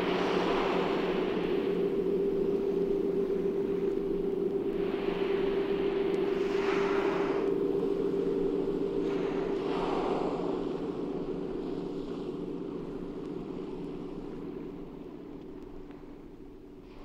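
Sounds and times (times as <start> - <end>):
low ambient drone: 0.0 - 17.0
rushing wind-like noise: 0.0 - 17.0.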